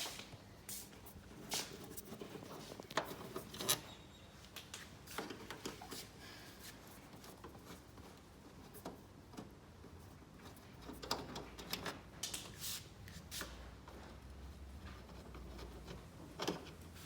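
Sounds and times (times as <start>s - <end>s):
light clicks taps and scrapes: 0.2s - 17.0s.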